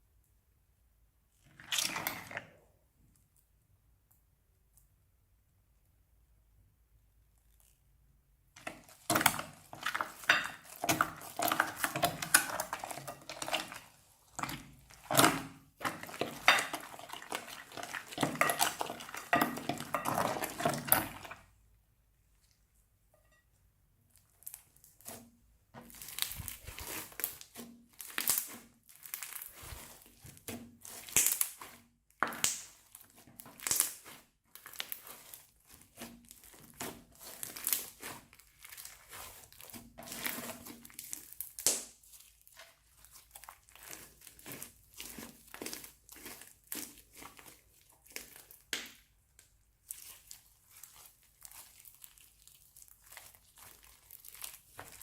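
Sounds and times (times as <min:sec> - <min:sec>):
slime and plastic bags crinkling: 0:08.5 - 0:21.6, 0:24.0 - 0:55.0.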